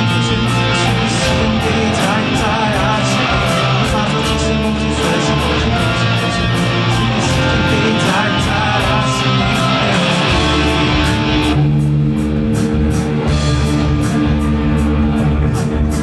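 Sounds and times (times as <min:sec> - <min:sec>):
instrumental pop music: 0:00.0 - 0:16.0.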